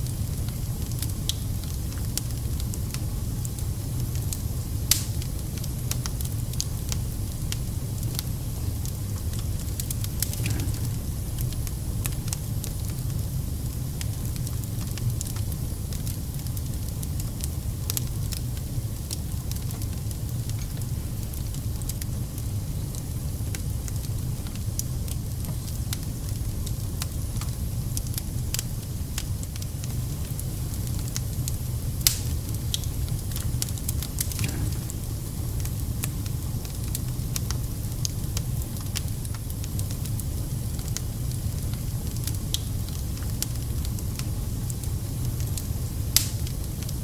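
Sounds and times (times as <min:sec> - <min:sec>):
campfire wood crackling and popping: 0:00.0 - 0:47.0
low fire rumble: 0:00.0 - 0:47.0.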